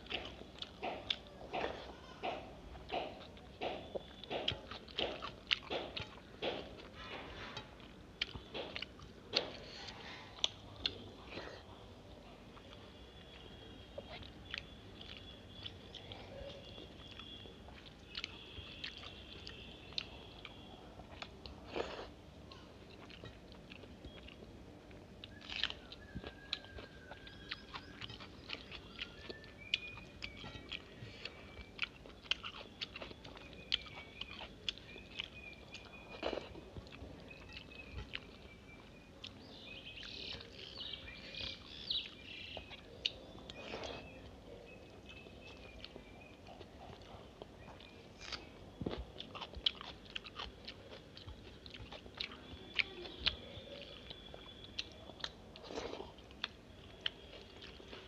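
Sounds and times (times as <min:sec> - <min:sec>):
chewing and mouth clicks: 0:00.0 - 0:11.8, 0:12.5 - 0:22.2, 0:22.9 - 0:58.0
birds chirping faintly: 0:00.0 - 0:58.0.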